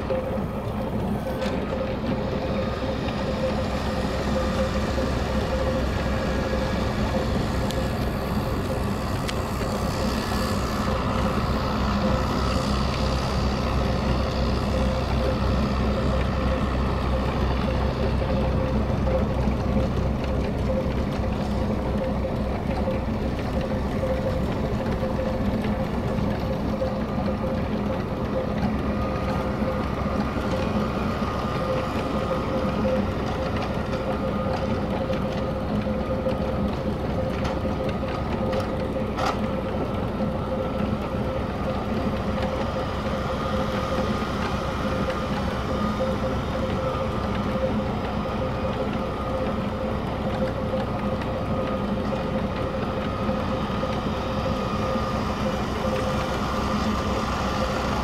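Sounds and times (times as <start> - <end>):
snowblower whine: 0.0 - 58.0
tractor engine drone: 0.0 - 58.0.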